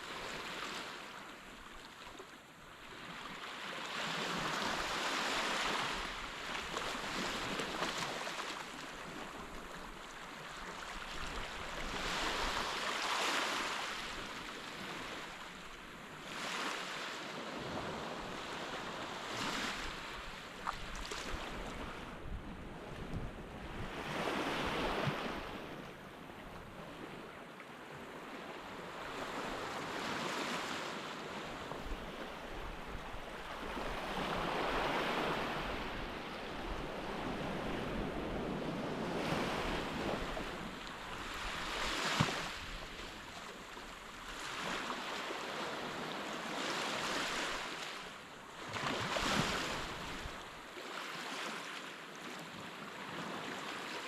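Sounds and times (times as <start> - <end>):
sea waves breaking on beach: 2.9 - 22.2, 28.6 - 54.0.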